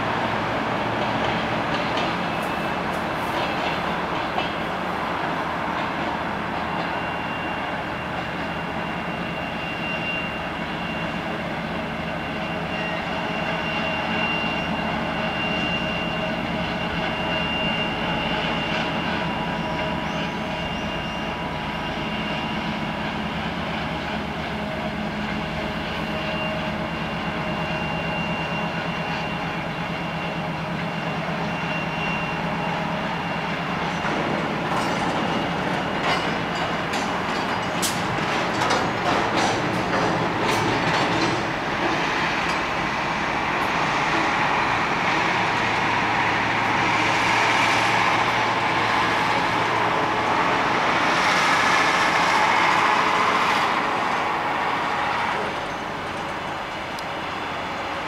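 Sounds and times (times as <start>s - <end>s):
diesel locomotive engine: 0.0s - 58.0s
train wheels rolling on rails: 0.0s - 58.0s.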